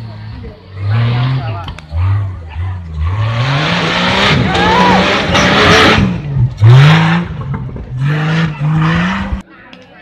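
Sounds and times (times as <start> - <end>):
buggy engine revving hard: 0.0 - 9.4.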